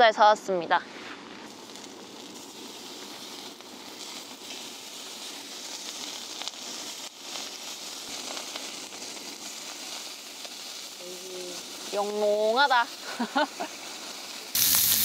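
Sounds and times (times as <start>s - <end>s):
meat sizzling on grill pan: 1.5s - 15.0s.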